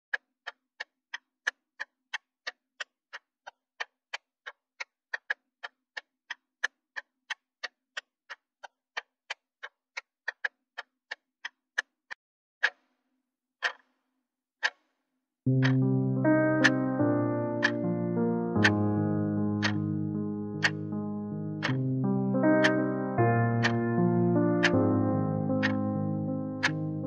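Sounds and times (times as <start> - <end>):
clock ticking: 0.1 - 11.9, 13.6 - 13.9, 14.6 - 14.8, 15.5 - 27.0.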